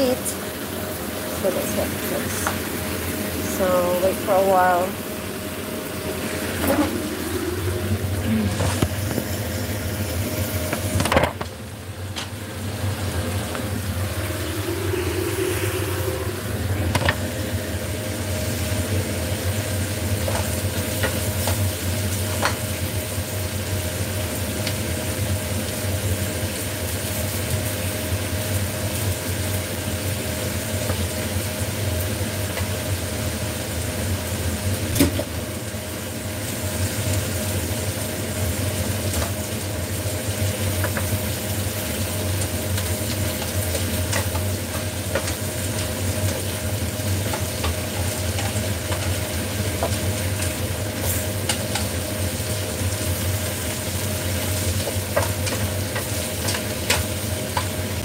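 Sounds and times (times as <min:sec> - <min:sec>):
range hood fan hum: 0:00.0 - 0:58.0
vegetables sizzling in a wok: 0:00.0 - 0:58.0.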